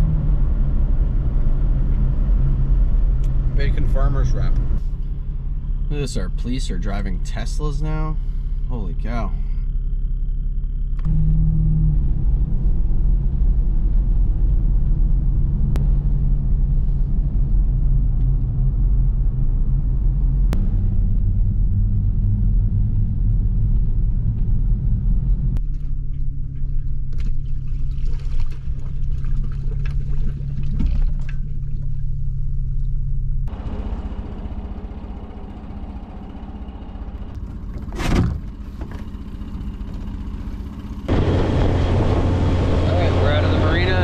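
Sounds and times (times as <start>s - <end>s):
car engine and road noise: 0.0s - 44.0s.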